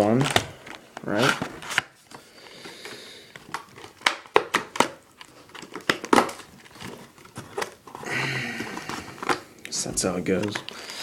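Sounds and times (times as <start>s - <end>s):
packaging crinkling and snapping: 0.0s - 11.0s.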